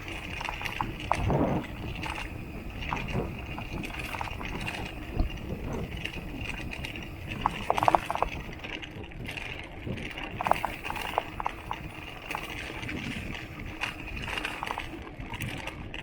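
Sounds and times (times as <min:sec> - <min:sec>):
bike riding on rough trail: 0:00.0 - 0:16.0.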